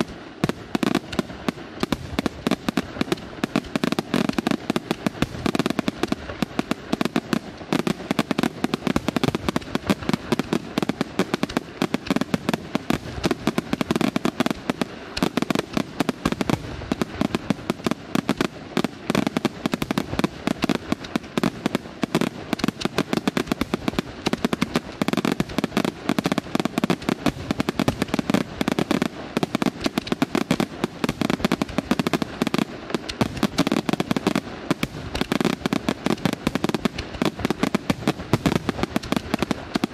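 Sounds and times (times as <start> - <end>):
firework shells bursting: 0.0 - 39.9.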